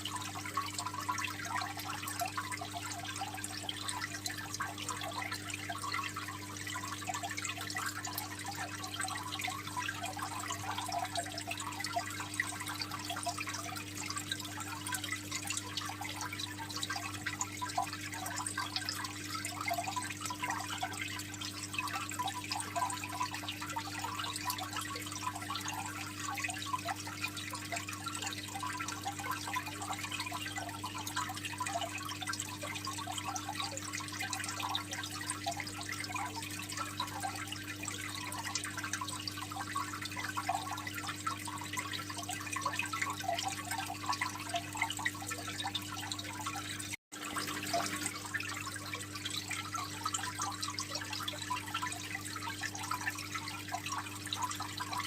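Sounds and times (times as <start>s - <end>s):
aquarium water trickling: 0.0s - 55.0s
pump humming: 0.0s - 55.0s.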